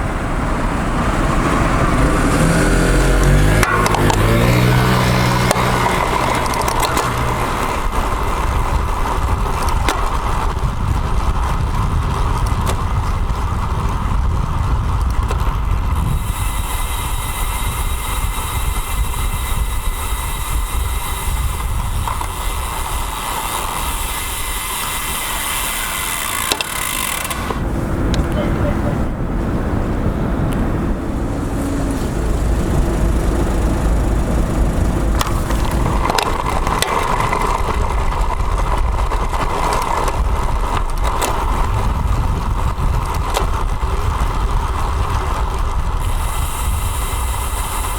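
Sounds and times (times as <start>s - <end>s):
motor vehicle engine: 0.0s - 47.9s
wind and road noise: 0.0s - 47.9s.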